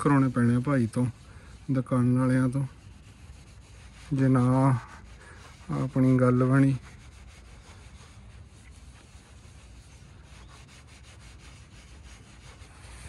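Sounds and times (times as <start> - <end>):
hand rubbing car paint: 0.0 - 13.0.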